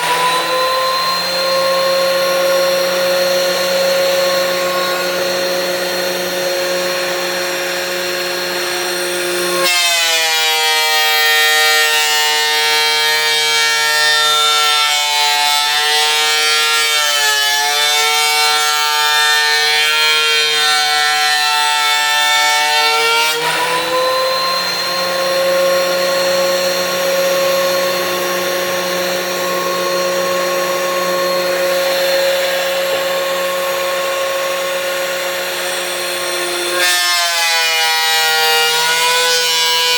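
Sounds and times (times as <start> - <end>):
planer cutting wood: 0.0 - 39.9
thickness planer motor whine: 0.0 - 39.9.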